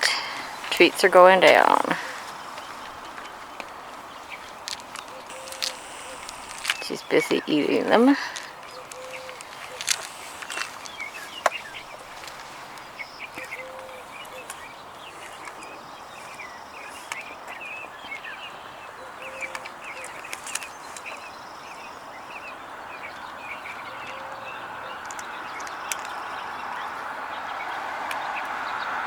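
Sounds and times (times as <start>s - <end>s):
outdoor background hiss: 0.0s - 29.0s
small birds chirping: 0.0s - 29.0s.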